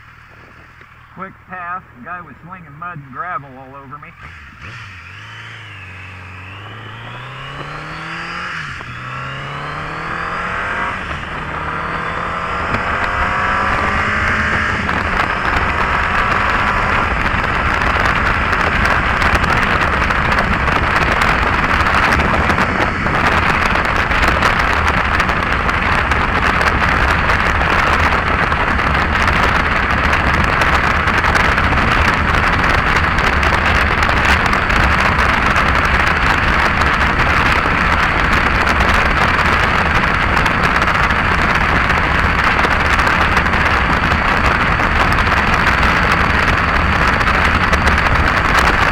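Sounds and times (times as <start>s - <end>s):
wind noise on microphone: 0.0s - 48.9s
motorcycle engine accelerating: 4.1s - 48.9s.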